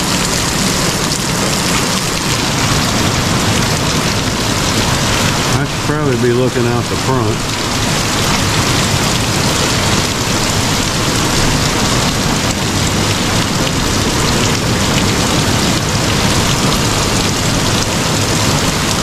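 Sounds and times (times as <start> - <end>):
torrential rain pouring: 0.0 - 19.0.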